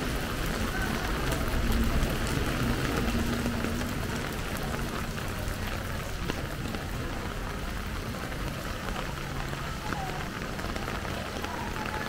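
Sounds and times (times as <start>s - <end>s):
heavy rain hissing: 0.0s - 12.0s
raindrops ticking: 0.0s - 12.0s.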